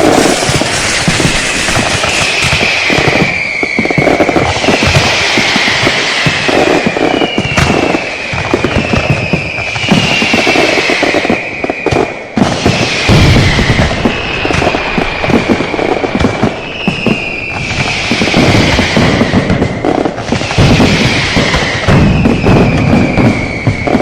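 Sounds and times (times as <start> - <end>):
firecrackers popping and banging: 0.0 - 24.0
high descending whistle: 0.0 - 24.0.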